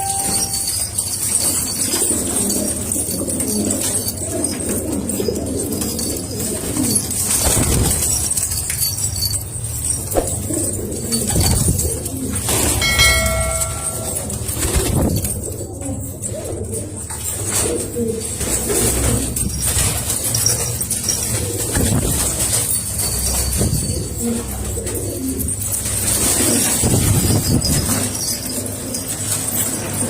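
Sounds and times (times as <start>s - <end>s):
pigeons cooing: 0.0s - 8.4s, 9.8s - 30.0s.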